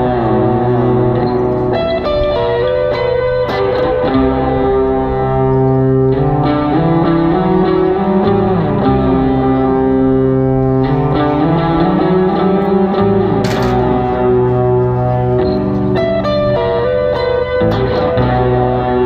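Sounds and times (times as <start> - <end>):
electric guitar sustained notes: 0.0 - 19.0.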